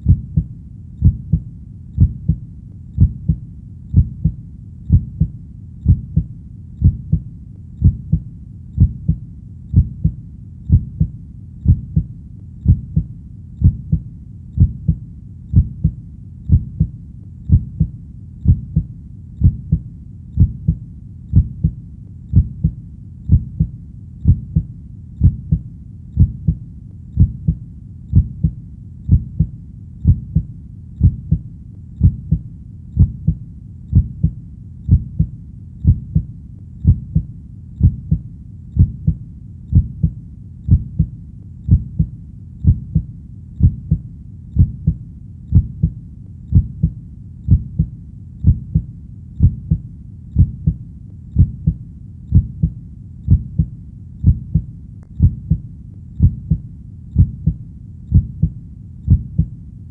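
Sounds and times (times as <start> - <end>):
heartbeat thumps: 0.0 - 2.4, 3.0 - 59.6
faint steady background noise: 0.0 - 59.9.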